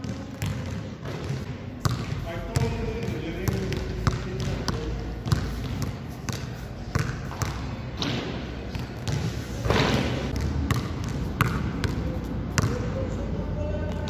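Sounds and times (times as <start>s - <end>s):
basketball bouncing on gym floor: 0.0s - 13.0s.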